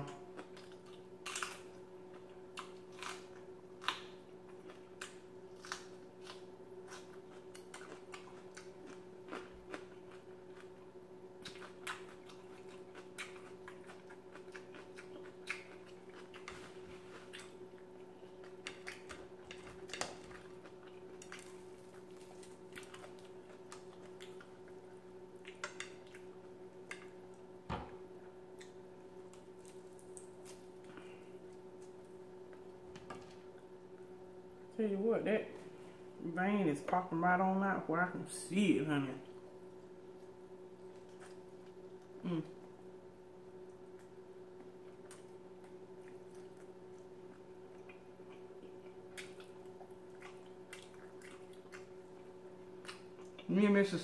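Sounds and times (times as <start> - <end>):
person chewing food: 0.0 - 27.5, 28.2 - 34.2, 39.3 - 53.5
faint steady hum: 0.0 - 54.0.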